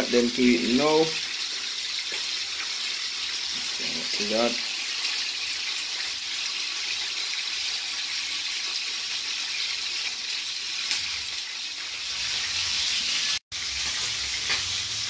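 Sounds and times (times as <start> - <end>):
oil sizzling in a frying pan: 0.0 - 15.0.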